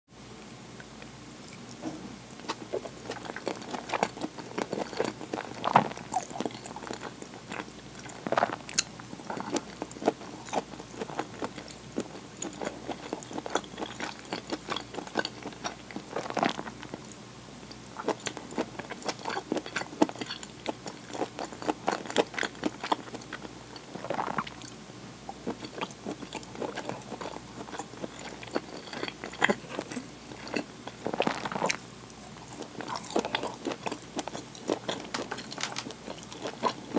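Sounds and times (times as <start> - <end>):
person chewing food: 1.5 - 36.9.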